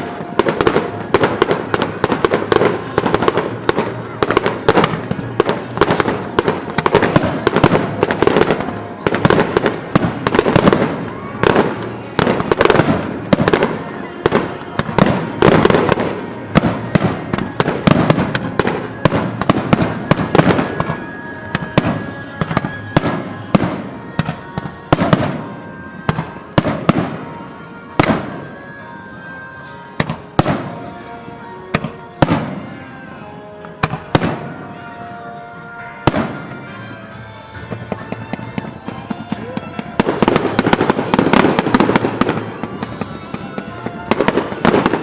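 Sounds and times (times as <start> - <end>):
fireworks bursting: 0.0 - 45.0
music with held notes: 0.0 - 45.0.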